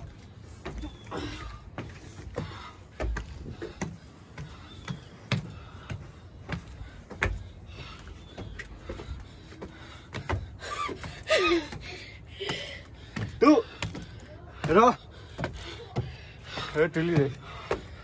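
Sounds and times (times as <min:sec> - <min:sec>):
footsteps on wooden stairs: 0:00.0 - 0:18.0.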